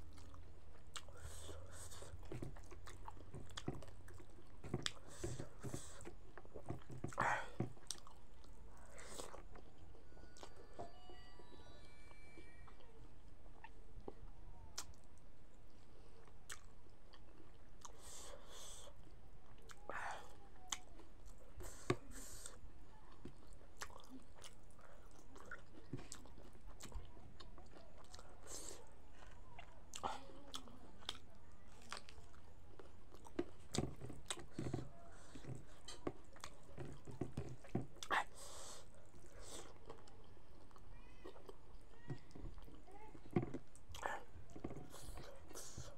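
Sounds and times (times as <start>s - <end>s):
chewing and mouth smacks: 0.0s - 9.7s, 14.8s - 19.8s, 20.6s - 45.9s.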